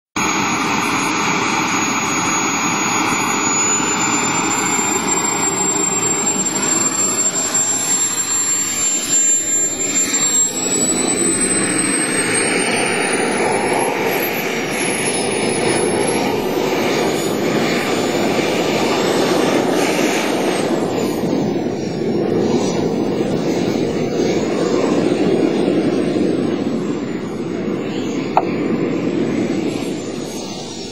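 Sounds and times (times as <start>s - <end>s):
model jet engine whine: 0.1s - 30.9s.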